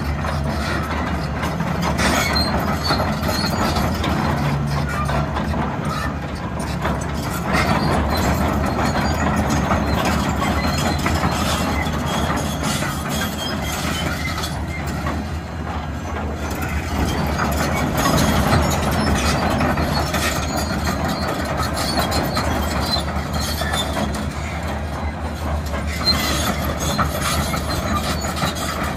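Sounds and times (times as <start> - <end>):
diesel engine running: 0.0 - 28.9
track chains clanking: 0.0 - 28.9.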